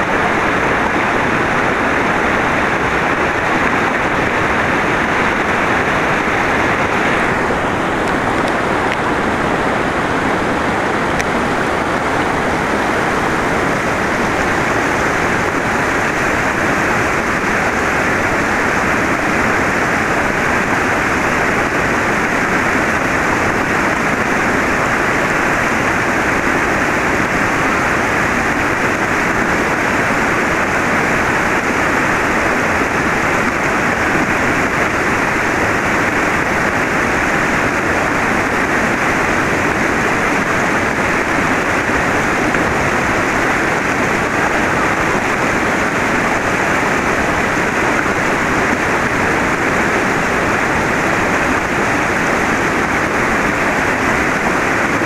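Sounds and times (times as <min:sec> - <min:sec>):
river rapids rushing over rocks: 0:00.0 - 0:55.0.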